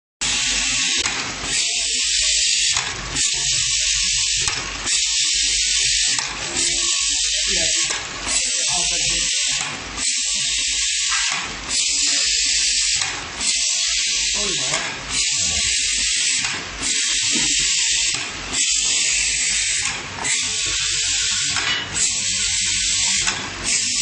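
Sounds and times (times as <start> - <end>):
filling machine hissing: 0.2 - 24.0.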